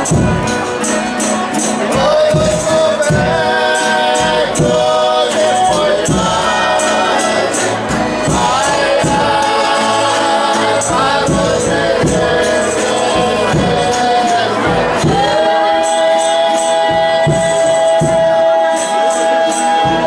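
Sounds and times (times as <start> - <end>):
group chanting a sung verse: 1.8 - 20.0.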